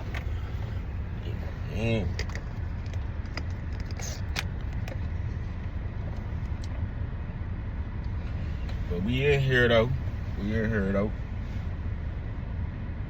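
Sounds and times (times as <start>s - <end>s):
car idling rumble: 0.0s - 13.0s.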